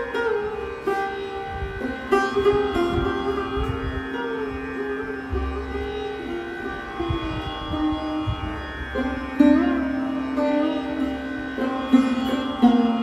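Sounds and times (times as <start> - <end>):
sarod plucked strings: 0.0 - 13.0.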